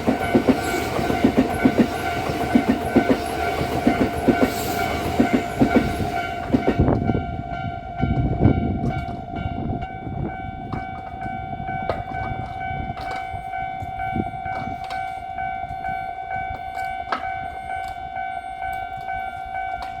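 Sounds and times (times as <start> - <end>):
level-crossing warning alarm: 0.0 - 20.0
train rumbling past: 0.0 - 20.0.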